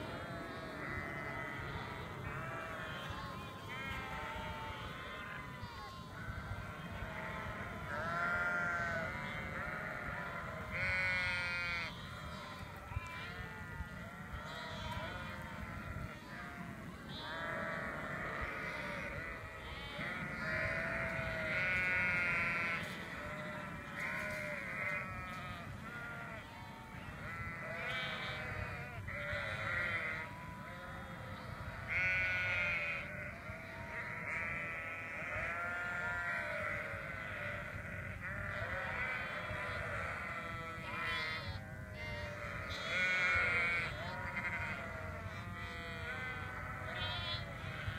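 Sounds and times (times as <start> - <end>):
flock of sheep bleating: 0.0 - 47.9.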